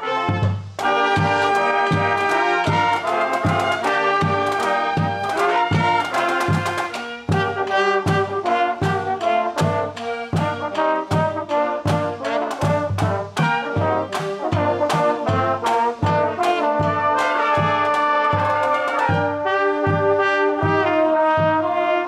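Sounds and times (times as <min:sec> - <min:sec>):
brass and saxophone band playing: 0:00.0 - 0:22.0
bass drum beat: 0:00.3 - 0:21.7.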